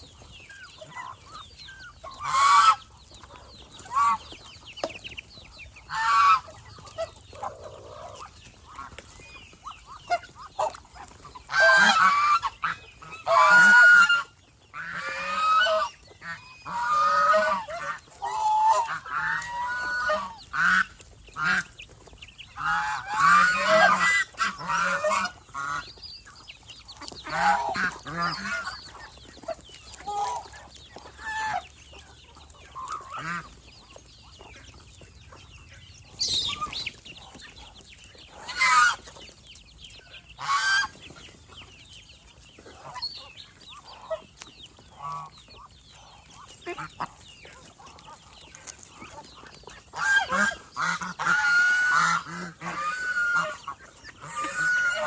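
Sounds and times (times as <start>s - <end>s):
geese honking: 0.0s - 4.9s, 5.8s - 21.8s, 22.5s - 26.0s, 26.9s - 41.3s, 42.6s - 55.0s.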